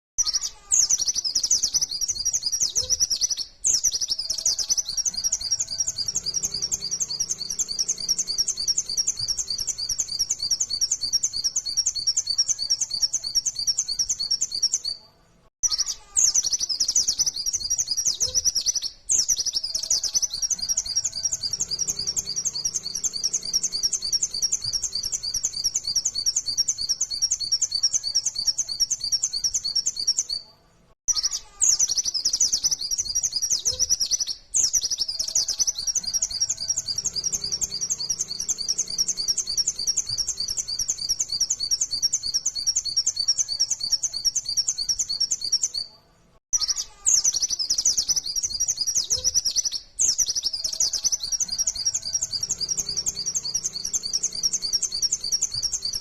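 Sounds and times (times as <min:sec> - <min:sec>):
white-eye singing high chirps: 0:00.2 - 0:14.9, 0:15.6 - 0:30.4, 0:31.1 - 0:45.9, 0:46.6 - 0:56.0.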